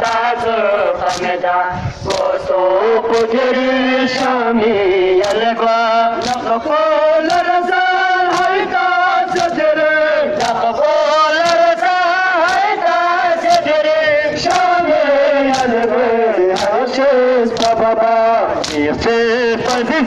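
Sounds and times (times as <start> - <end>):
men chanting together: 0.0 - 20.0.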